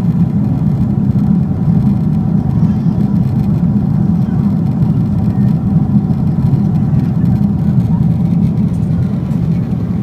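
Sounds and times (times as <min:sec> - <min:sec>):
jet engine cabin rumble: 0:00.0 - 0:10.0.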